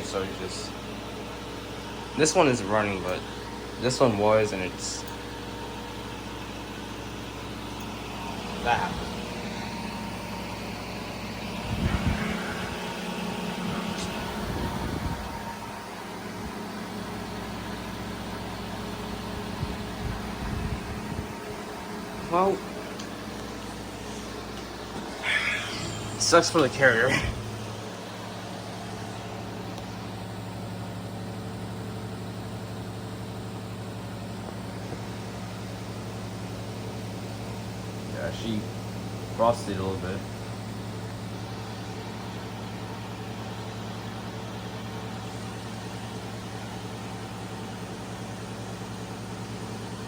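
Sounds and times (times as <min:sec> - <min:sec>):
heat pump unit humming: 0:00.0 - 0:50.0.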